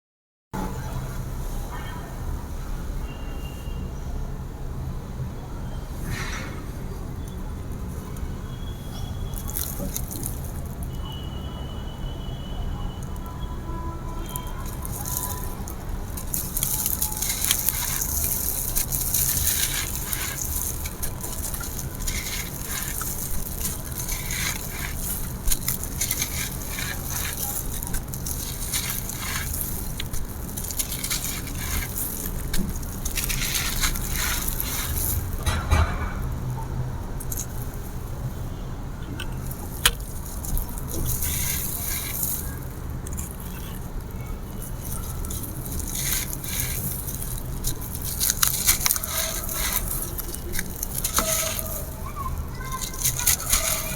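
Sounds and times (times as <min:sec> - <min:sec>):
concrete crunching and crackling: 0:07.2 - 0:11.3, 0:12.8 - 0:53.9.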